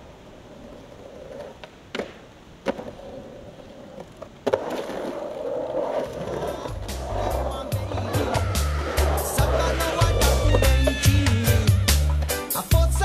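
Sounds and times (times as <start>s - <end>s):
skateboard wheels rolling on concrete: 0.0s - 13.0s
skateboard knocking on concrete: 0.6s - 12.4s.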